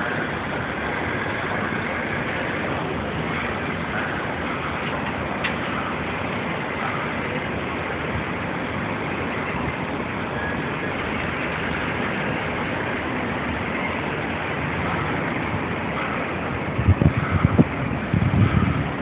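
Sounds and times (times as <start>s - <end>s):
ship engine hiss and hum: 0.0s - 19.0s.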